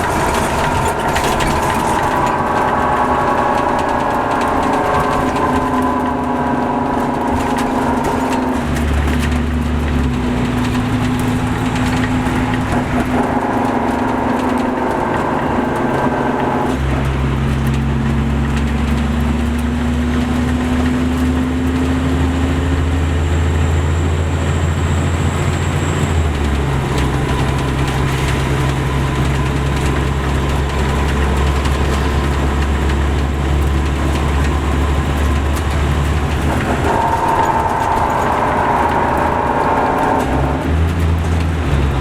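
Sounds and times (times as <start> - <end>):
higher whine: 0.0 - 18.6, 22.7 - 42.0
diesel coach engine running: 0.0 - 42.0.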